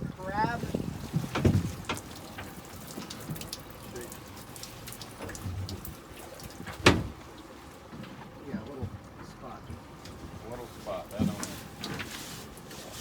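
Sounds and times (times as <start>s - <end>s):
water splashing and trickling: 0.0s - 13.0s
faint drips and ticks: 1.1s - 12.8s.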